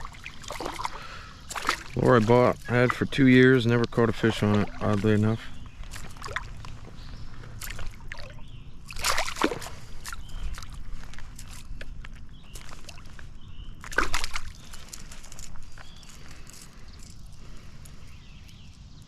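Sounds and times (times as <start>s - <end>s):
water splashing and sloshing: 0.0s - 18.1s.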